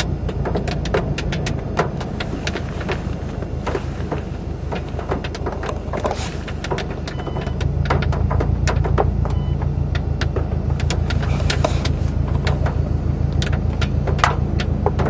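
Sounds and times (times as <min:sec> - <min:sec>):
car engine idling: 0:00.0 - 0:15.0
raindrops ticking on car roof: 0:00.0 - 0:15.0.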